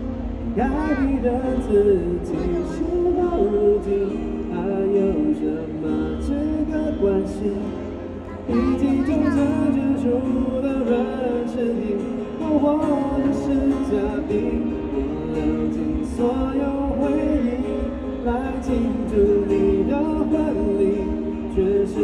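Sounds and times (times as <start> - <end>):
acoustic guitar: 0.0 - 22.0
man singing a ballad: 0.4 - 22.0.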